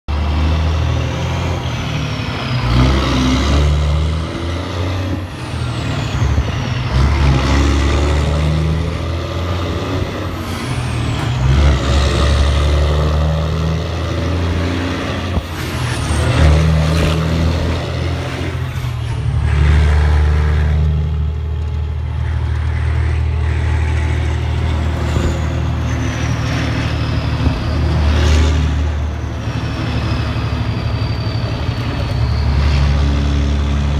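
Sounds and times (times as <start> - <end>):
loud diesel truck engine: 0.0 - 33.9.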